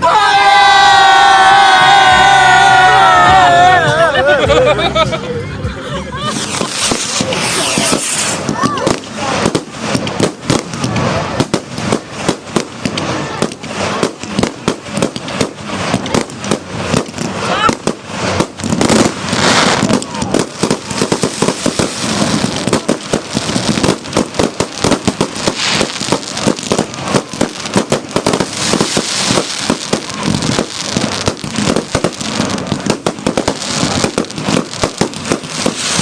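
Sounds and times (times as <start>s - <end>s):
crowd voices: 0.0s - 36.0s
fireworks bangs and crackles: 6.2s - 36.0s.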